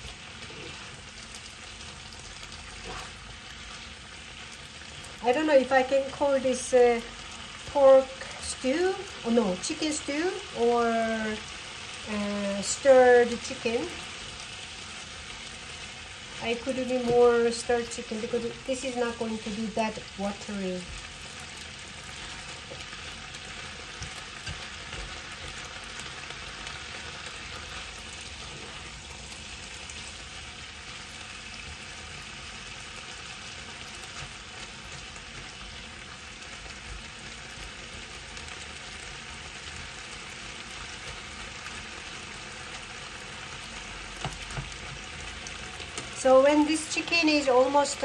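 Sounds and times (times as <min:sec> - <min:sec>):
chicken sizzling in a pot: 0:00.0 - 0:48.0.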